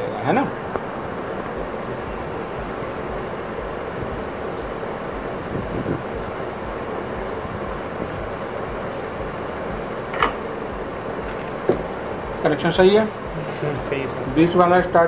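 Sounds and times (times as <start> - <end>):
background rumble and hiss: 0.0 - 15.0
faint low pulsing: 0.0 - 15.0.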